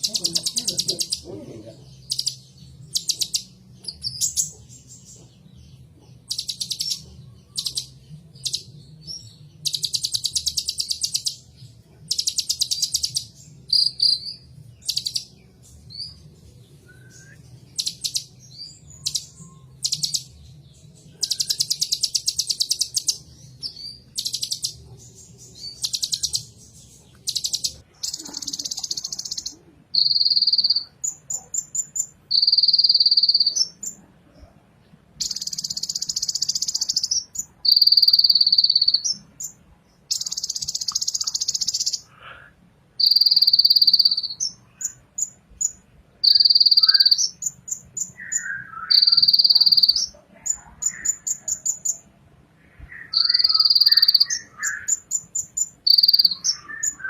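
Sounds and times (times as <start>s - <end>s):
sunbird singing trills and whistles: 1.9s - 5.4s, 6.2s - 34.0s, 35.2s - 42.1s, 43.0s - 52.1s, 52.8s - 57.0s.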